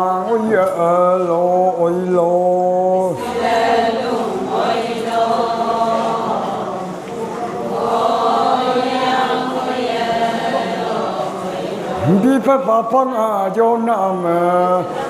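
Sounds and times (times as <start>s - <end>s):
chorus chanting in unison: 0.0s - 15.0s.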